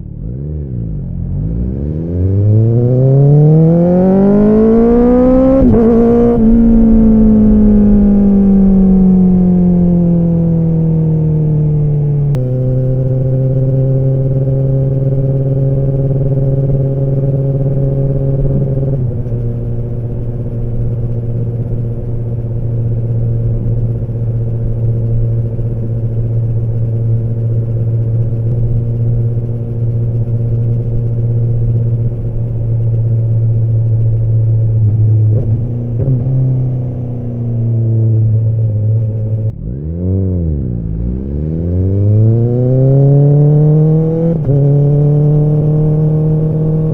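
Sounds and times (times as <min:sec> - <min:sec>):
motorcycle engine and exhaust: 0:00.0 - 0:46.9.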